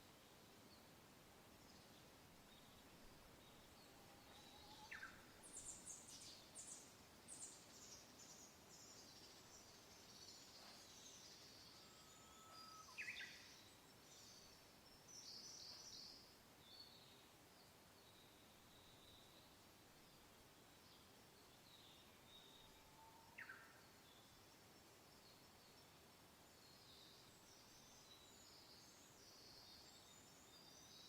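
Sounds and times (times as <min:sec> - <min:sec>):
gentle wind: 0:00.0 - 0:31.0.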